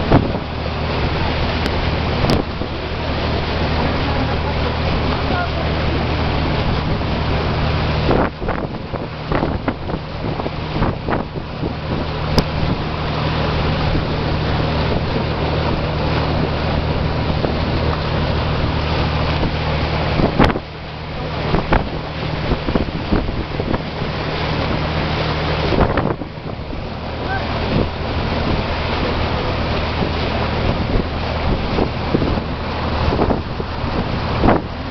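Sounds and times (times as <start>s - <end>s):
boat engine humming: 0.0s - 34.9s
sea rushing past: 0.0s - 34.9s
wind buffeting microphone: 0.0s - 34.9s.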